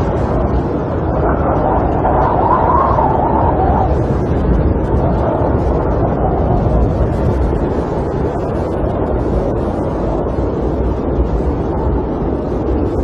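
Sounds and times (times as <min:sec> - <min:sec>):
storm wind rushing: 0:00.0 - 0:13.0.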